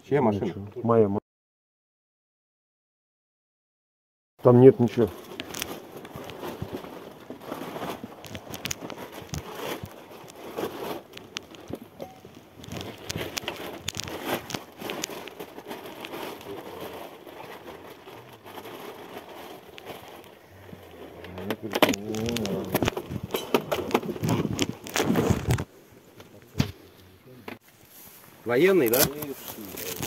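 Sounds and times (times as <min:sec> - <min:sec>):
close rustling and crinkling: 0:04.4 - 0:27.0, 0:27.6 - 0:30.0.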